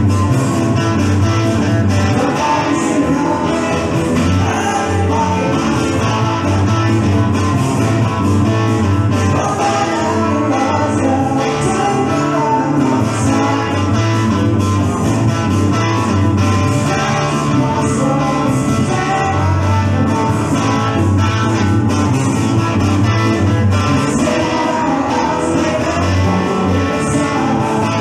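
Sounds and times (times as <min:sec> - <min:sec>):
blues rock band playing: 0:00.0 - 0:28.0
distorted electric guitar: 0:00.0 - 0:28.0
man singing: 0:01.8 - 0:07.4, 0:09.0 - 0:21.8, 0:23.8 - 0:28.0.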